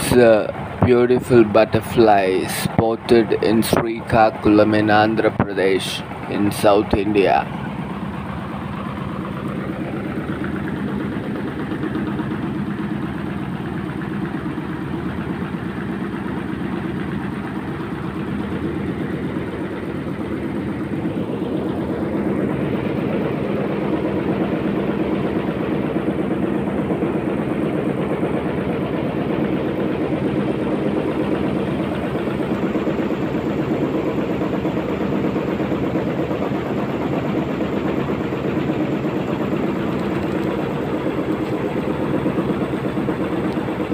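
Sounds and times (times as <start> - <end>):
engine running: 0.0 - 43.9.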